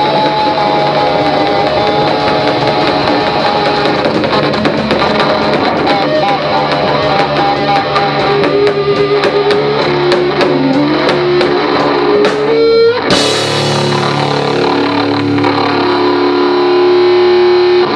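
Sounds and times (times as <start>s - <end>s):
electric guitar: 0.0s - 17.9s
live rock band playing: 0.0s - 17.9s.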